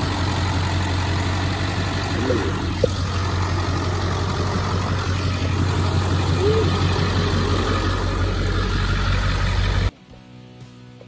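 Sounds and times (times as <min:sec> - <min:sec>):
diesel engine idling: 0:00.0 - 0:09.9.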